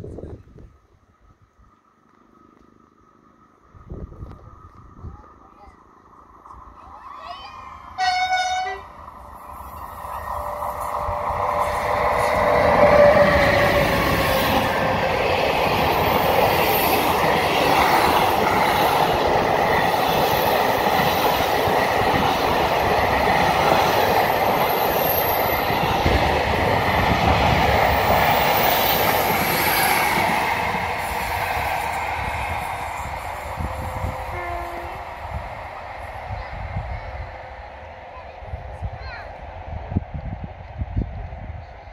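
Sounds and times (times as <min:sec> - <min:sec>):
passenger train passing: 0:00.0 - 0:41.9.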